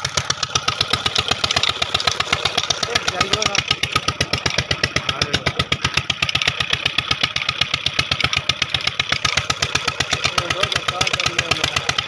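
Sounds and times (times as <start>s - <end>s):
single-cylinder engine running: 0.0s - 12.0s.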